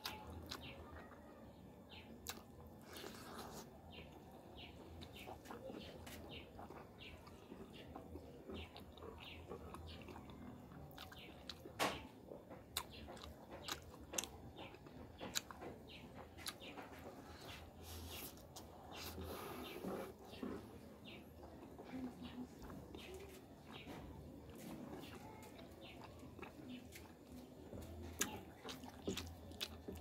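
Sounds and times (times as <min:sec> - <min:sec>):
chewing and wet mouth sounds: 0:00.0 - 0:30.0.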